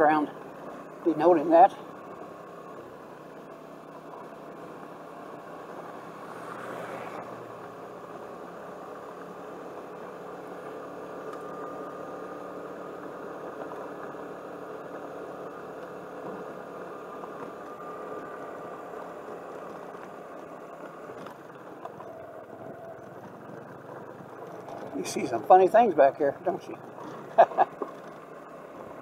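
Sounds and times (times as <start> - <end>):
road noise on gravel: 0.0 - 29.0
scooter engine running: 0.0 - 29.0.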